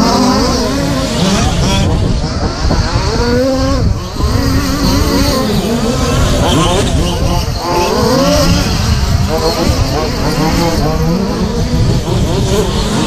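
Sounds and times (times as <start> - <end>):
rc truck motors whining: 0.0 - 13.0
wind buffeting microphone: 0.0 - 13.0.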